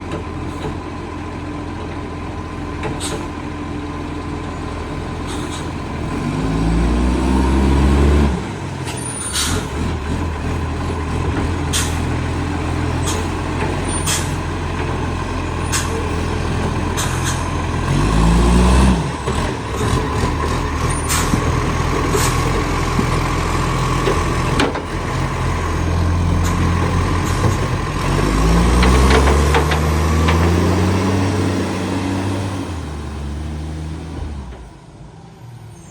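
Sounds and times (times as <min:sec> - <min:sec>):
diesel engine revving: 0:00.0 - 0:35.9.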